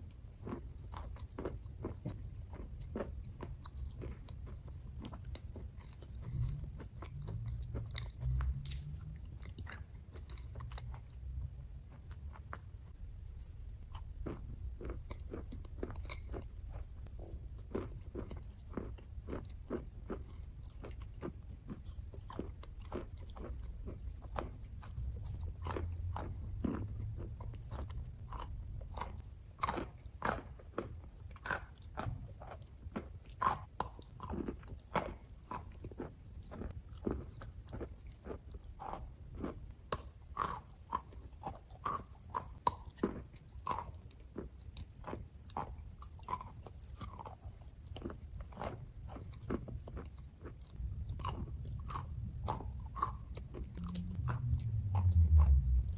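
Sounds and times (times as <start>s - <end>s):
chewing crunchy chalk: 0.1s - 11.2s, 11.9s - 55.9s.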